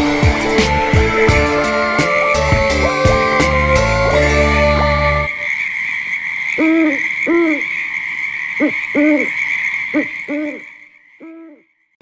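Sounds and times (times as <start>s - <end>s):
owl hooting: 0.9s - 11.7s.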